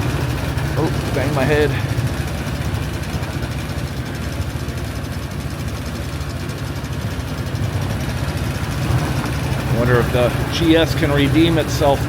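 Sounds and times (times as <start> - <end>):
scooter engines idling: 0.0 - 12.0.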